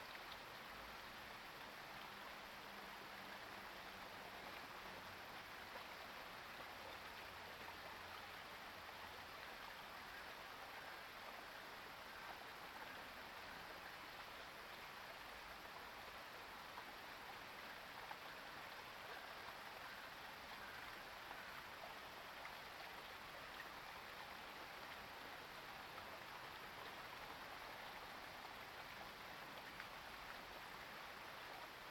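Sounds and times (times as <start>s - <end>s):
faint background hiss: 0.0s - 31.9s.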